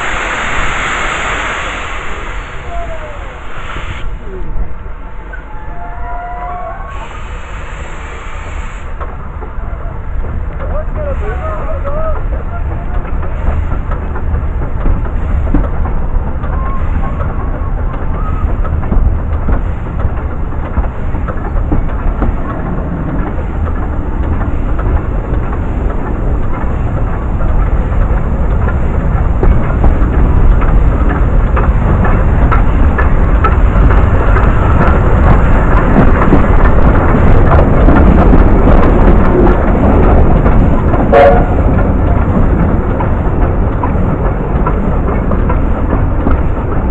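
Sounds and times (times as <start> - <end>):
train rumbling and clattering: 0.0 - 46.9
wheels clicking on rails: 0.0 - 46.9.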